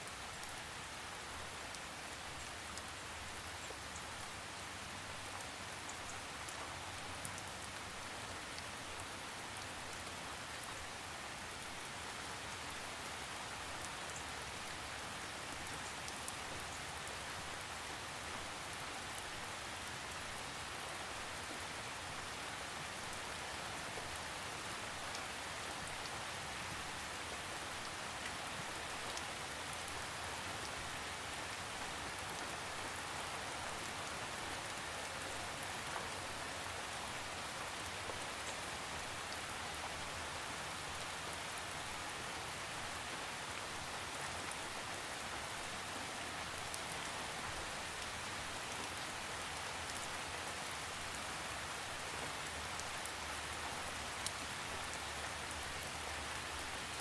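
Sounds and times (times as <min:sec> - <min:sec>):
faint raindrop ticks: 0:00.0 - 0:21.6, 0:22.2 - 0:41.9, 0:46.4 - 0:51.2
steady rain hiss: 0:00.0 - 0:57.0.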